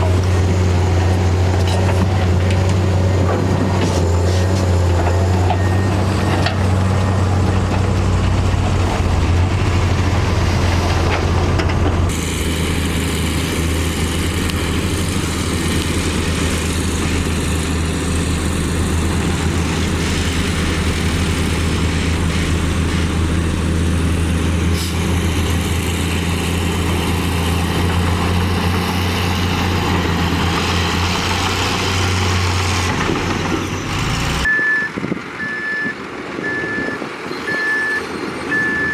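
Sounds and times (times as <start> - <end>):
heavy diesel machinery engine: 0.0 - 38.9.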